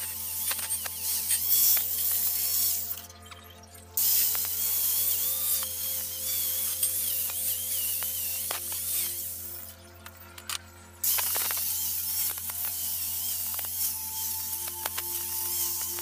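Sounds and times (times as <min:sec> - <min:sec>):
angle grinder scraping metal: 0:00.0 - 0:16.0.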